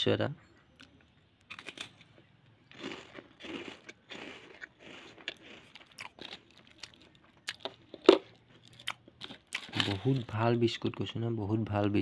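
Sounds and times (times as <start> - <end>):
person crunching a biscuit: 0.7 - 10.4.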